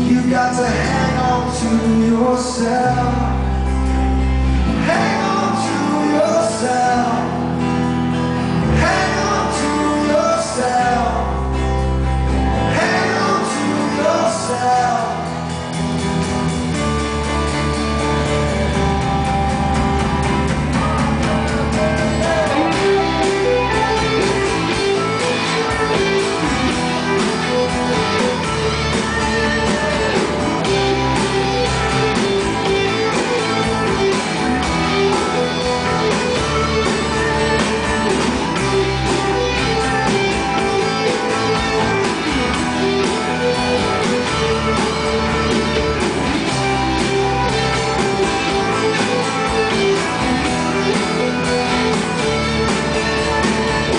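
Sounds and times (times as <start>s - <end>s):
rock band playing live: 0.0s - 53.9s
strummed guitar chords: 0.0s - 53.9s.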